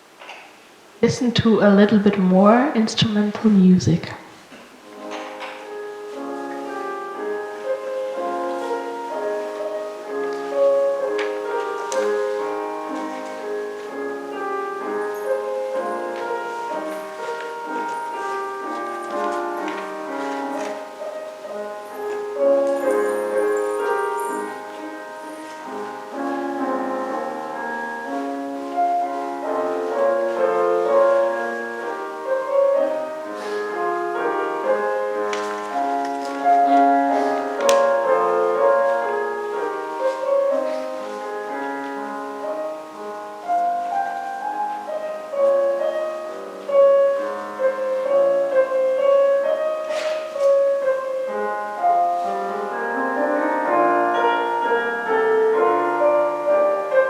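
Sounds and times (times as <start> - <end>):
slow keyboard music: 0.9 - 57.0.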